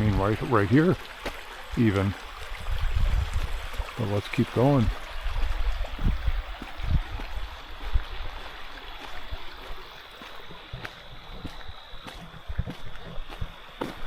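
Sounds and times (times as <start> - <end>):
creek flowing over rocks: 0.0 - 14.0
footsteps on a trail: 0.0 - 14.0.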